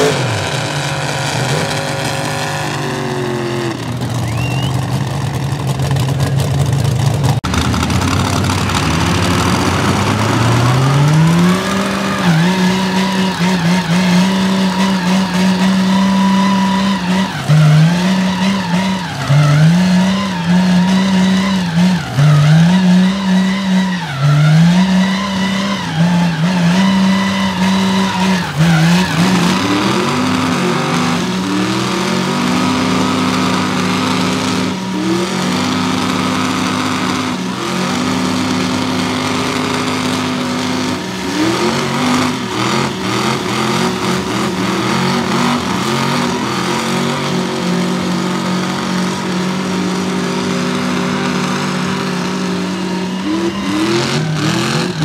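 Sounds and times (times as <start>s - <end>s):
tires spinning on wet concrete: 0.0s - 55.0s
truck engines revving: 0.0s - 55.0s.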